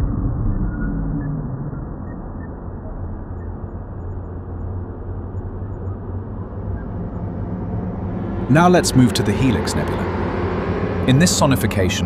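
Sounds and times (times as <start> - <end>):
dense rumbly electronic wash: 0.0 - 12.0
steady low hum: 0.0 - 12.0.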